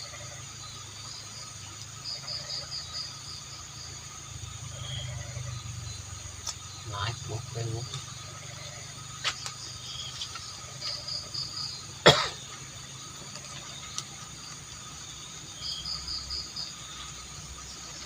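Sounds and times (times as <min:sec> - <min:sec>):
crickets chirping: 0:00.0 - 0:18.0
pulsing insect trills: 0:00.0 - 0:18.0.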